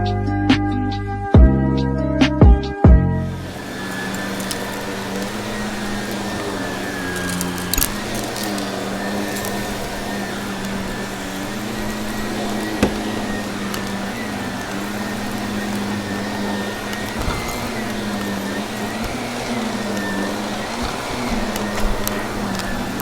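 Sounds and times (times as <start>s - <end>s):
vacuum cleaner motor running: 3.2s - 23.0s
grit clicks being sucked up: 3.3s - 23.0s.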